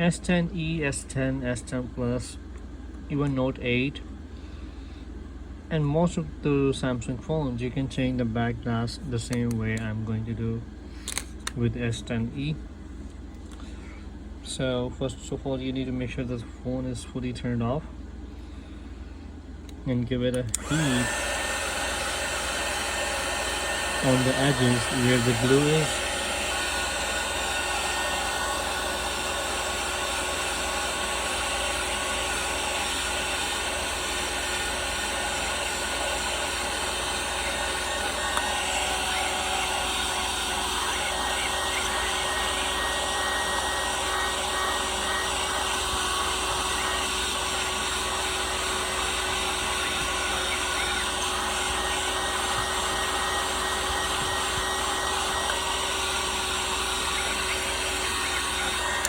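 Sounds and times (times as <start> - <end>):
hot-air blower running: 0.0 - 59.0.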